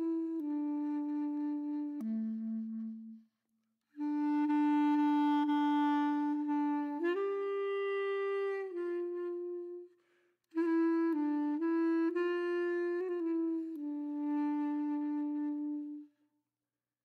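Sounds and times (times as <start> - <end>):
slow woodwind melody: 0.0 - 3.3, 3.9 - 16.2.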